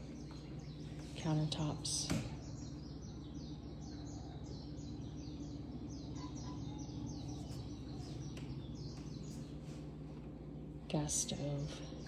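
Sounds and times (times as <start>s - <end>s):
bird chirping: 0.0s - 10.1s
steady low hum: 0.0s - 12.0s.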